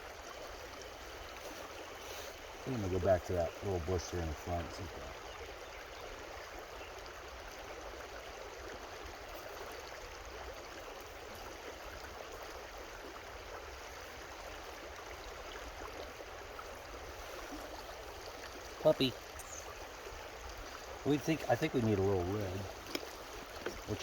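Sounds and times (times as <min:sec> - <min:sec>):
creek flowing over rocks: 0:00.0 - 0:24.0.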